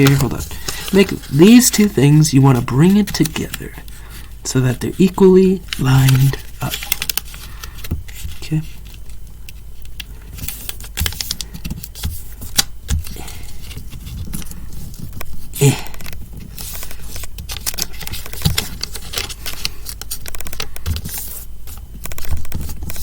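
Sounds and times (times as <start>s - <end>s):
paper rustling and crinkling: 0.0s - 23.0s.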